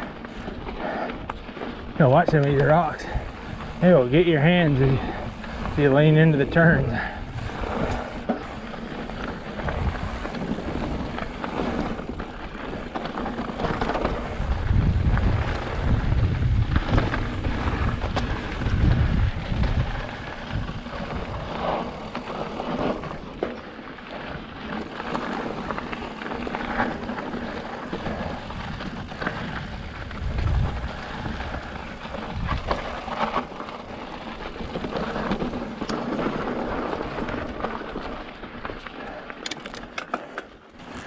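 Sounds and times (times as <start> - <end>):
wind buffeting microphone: 0.0 - 23.5, 24.2 - 38.2
bike rattling and knocking: 0.0 - 41.0
bike tyres crunching over gravel: 0.0 - 41.0.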